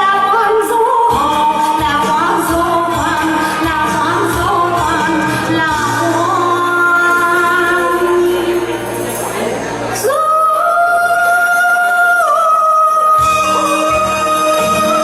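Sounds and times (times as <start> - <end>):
person singing: 0.0 - 8.9, 10.0 - 15.0
instrumental accompaniment: 0.0 - 15.0.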